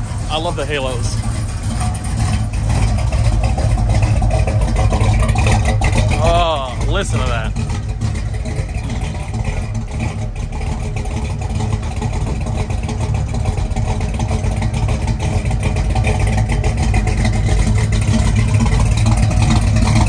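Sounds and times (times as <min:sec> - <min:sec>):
car engine and exhaust: 0:00.0 - 0:20.0.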